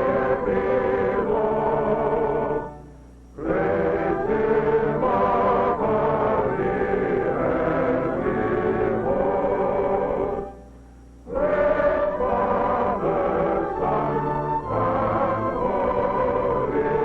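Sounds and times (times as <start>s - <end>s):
choir singing sustained notes: 0.0s - 17.0s.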